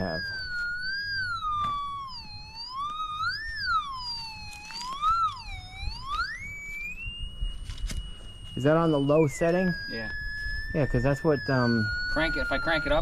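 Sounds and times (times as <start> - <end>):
metal detector tone wavering: 0.0 - 13.0.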